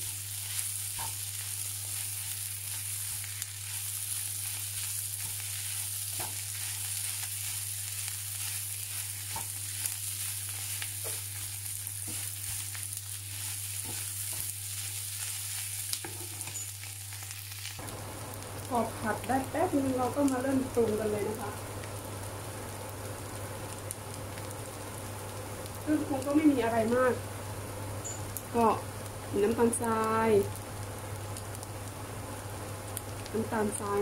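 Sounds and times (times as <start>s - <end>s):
food sizzling in hot oil: 0.0s - 34.0s
low steady hum: 0.0s - 34.0s.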